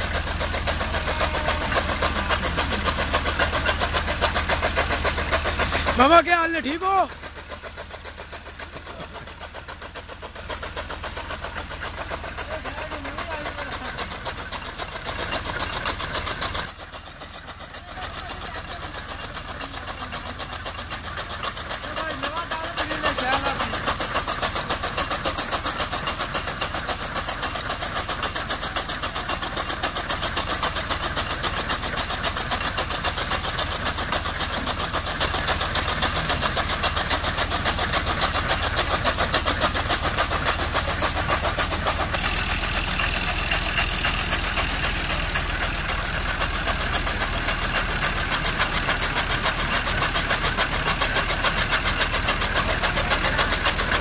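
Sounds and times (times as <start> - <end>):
chaff cutter chopping fodder: 0.0 - 54.0
tractor engine running under load: 0.0 - 54.0.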